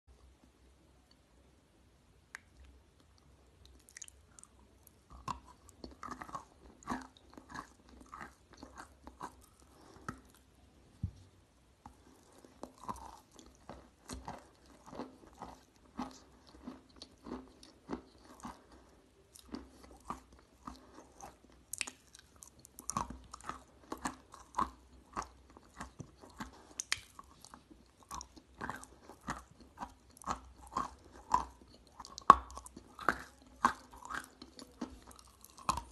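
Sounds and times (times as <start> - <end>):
soft wet chewing: 2.3 - 35.9.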